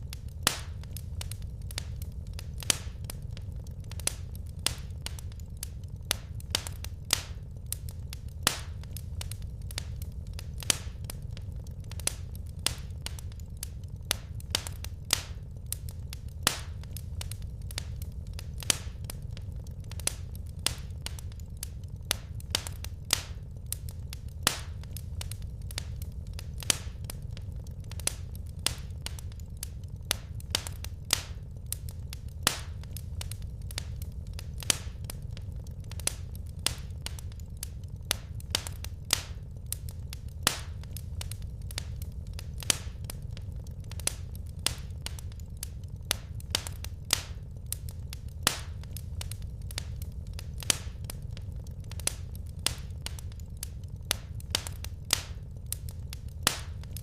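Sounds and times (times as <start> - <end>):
low rumble: 0.0 - 57.0
wood fire crackling and popping: 0.0 - 57.0.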